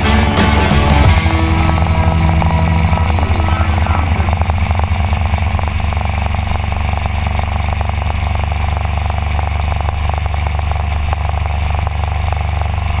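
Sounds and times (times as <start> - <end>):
motorbike engine rumble: 0.0 - 13.0.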